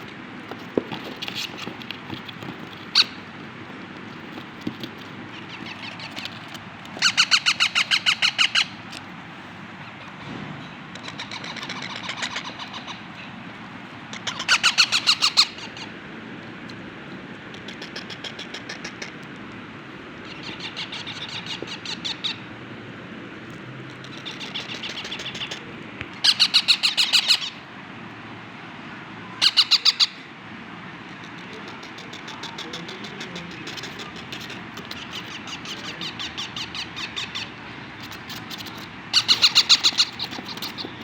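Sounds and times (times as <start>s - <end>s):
parrot chicks begging calls: 0.6s - 10.2s, 10.9s - 16.1s, 17.5s - 22.7s, 23.8s - 28.4s, 29.2s - 41.0s.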